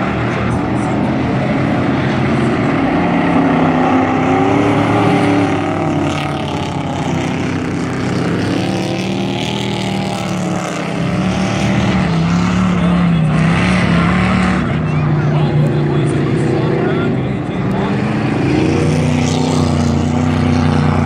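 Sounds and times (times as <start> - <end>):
race truck engines revving: 0.0 - 21.0.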